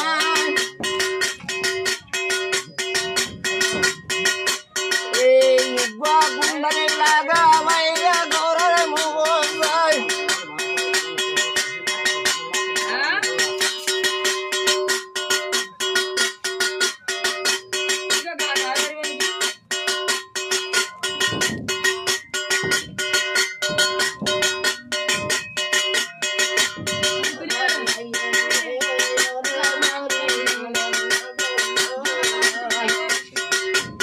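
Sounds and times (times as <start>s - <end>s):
fast beat: 0.0s - 34.0s
wavering melody line: 0.0s - 34.0s.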